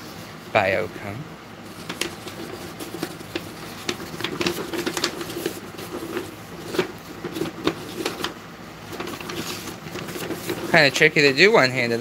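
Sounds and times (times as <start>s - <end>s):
paper filter rustling and crinkling: 1.6s - 11.6s.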